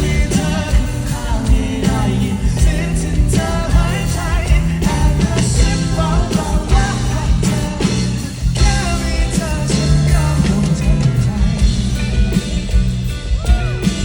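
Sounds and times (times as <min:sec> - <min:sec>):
person singing: 0:00.0 - 0:12.6
live rock band: 0:00.0 - 0:14.0.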